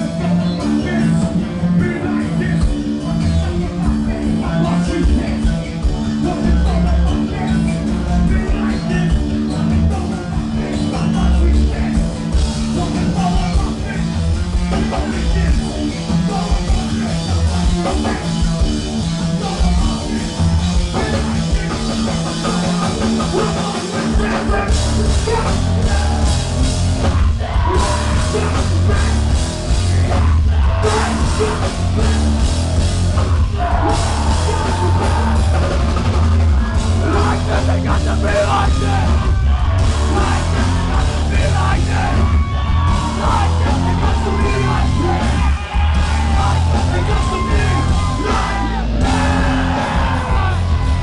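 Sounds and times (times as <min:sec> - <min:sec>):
heavy rock band playing live: 0:00.0 - 0:51.0.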